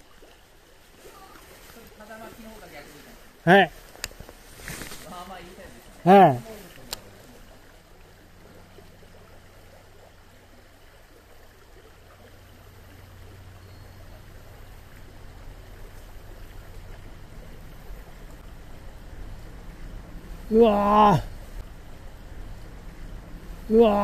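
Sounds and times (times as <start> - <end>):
stream rushing over stones: 0.0 - 24.0.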